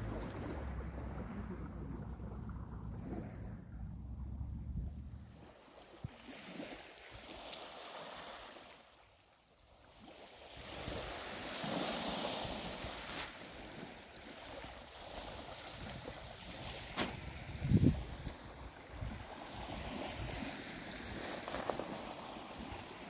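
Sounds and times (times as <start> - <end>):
waves lapping on pebble beach: 0.0 - 4.4, 5.1 - 23.0.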